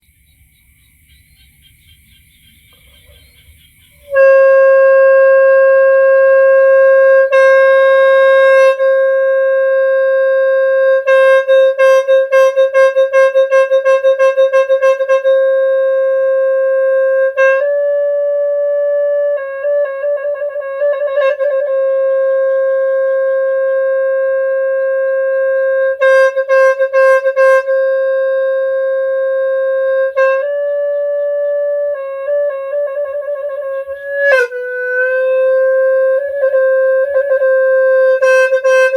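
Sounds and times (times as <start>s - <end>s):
horn free-reed instrument note: 4.0s - 38.9s.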